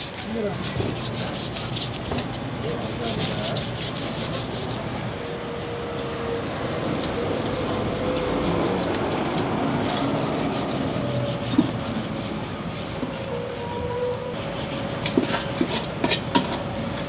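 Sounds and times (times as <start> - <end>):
knife scraping through fat: 0.0 - 13.4, 14.4 - 15.9.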